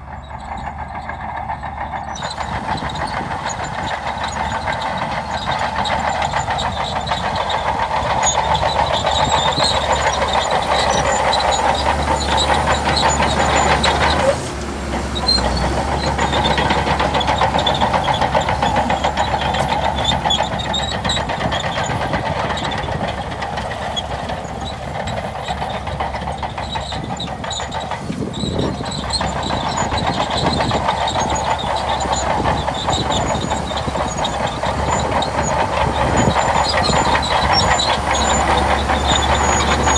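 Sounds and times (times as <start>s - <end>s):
bulldozer engine under load: 0.0s - 39.9s
steel tracks clattering: 0.0s - 39.9s.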